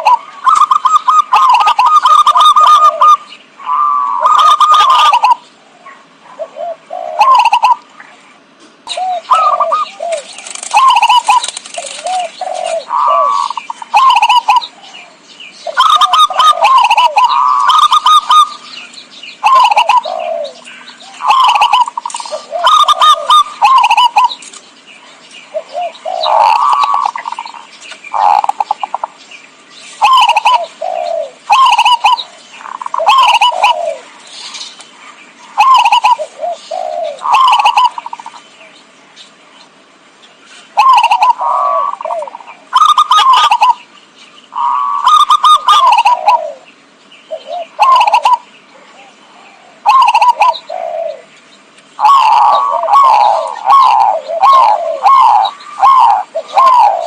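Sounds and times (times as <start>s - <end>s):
dove cooing: 0.0s - 8.2s, 8.9s - 29.2s, 29.9s - 38.7s, 40.7s - 43.9s, 44.5s - 51.4s, 52.0s - 57.0s.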